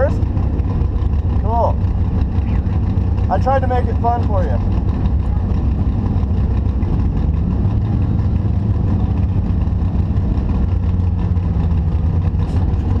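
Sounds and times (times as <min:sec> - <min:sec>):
engine running low rumble: 0:00.0 - 0:13.0.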